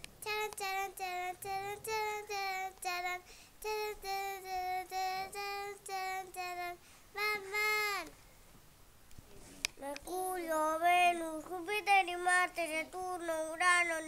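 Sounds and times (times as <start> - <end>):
girl singing unaccompanied: 0.0 - 8.2, 9.7 - 14.0.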